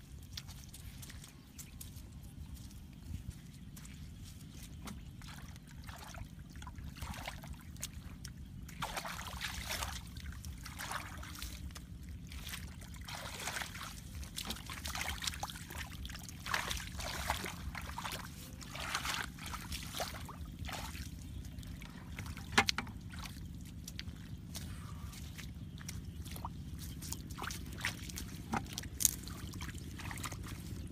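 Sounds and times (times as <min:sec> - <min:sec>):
steady low rumble: 0:00.0 - 0:30.9
water splashing in muddy puddle: 0:03.8 - 0:30.9.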